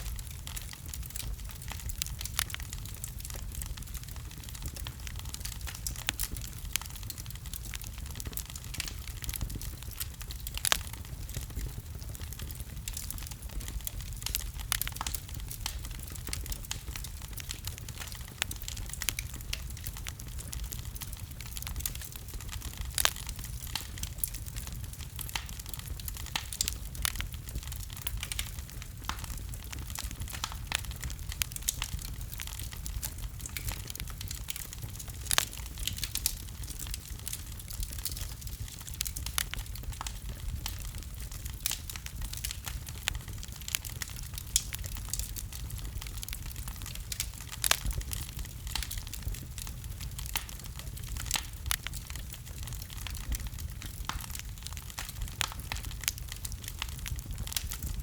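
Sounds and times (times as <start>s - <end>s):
fire crackling and popping: 0.0s - 58.0s
fire rumbling: 0.0s - 58.0s.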